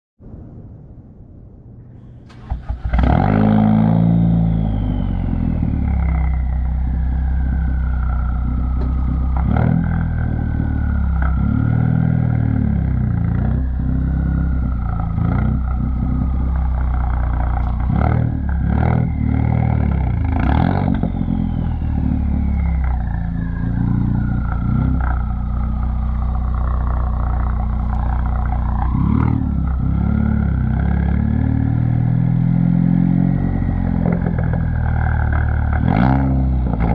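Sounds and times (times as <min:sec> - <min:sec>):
high whine gliding downward: 0:00.2 - 0:36.9
car engine running loud: 0:02.3 - 0:36.9.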